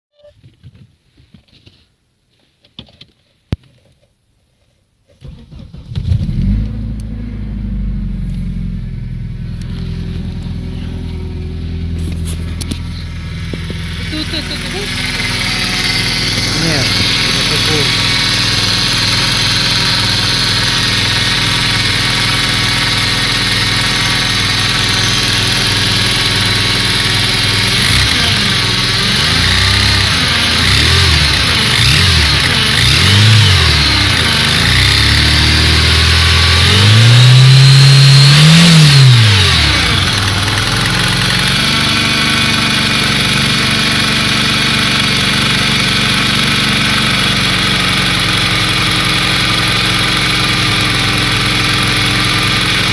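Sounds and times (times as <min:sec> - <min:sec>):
engine revving: 0:05.2 - 0:52.9
engine idling with knock: 0:06.0 - 0:38.2, 0:39.1 - 0:52.9.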